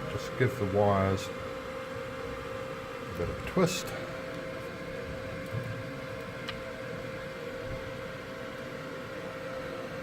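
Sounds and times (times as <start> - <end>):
extraction fan humming: 0.0 - 10.0.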